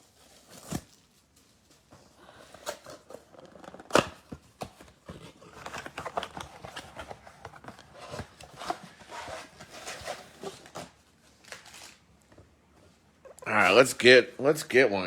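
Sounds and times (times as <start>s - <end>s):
cardboard and cards rustling: 0.0s - 14.2s.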